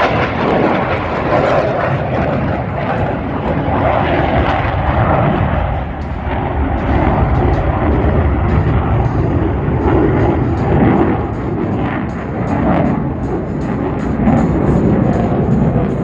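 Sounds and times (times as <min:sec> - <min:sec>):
jet aircraft roaring: 0:00.0 - 0:16.0.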